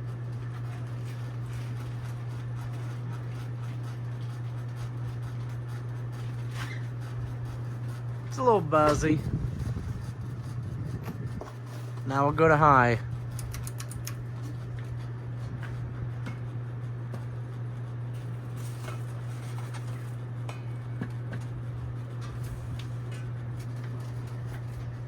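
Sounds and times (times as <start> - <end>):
ceiling fan motor humming: 0.0 - 25.0.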